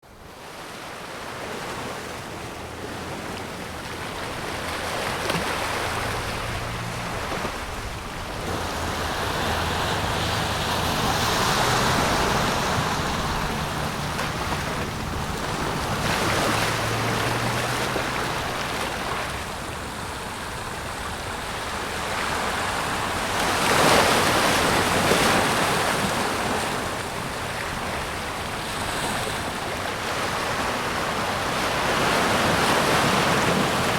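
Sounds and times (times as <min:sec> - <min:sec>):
small waves washing in: 0:00.2 - 0:33.9.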